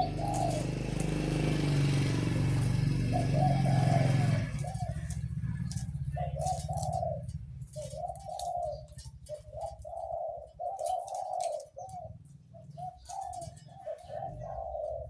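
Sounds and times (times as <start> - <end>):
dove cooing: 0.0 - 15.0
low engine rumble: 0.0 - 15.0.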